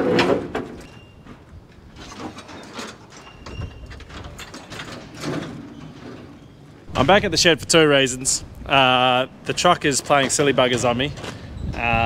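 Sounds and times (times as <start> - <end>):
hinges squeaking: 2.1 - 12.0.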